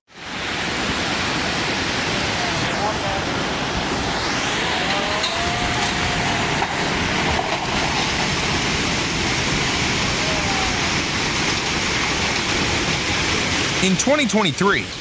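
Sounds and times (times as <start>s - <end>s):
rushing floodwater roar: 0.1s - 15.0s.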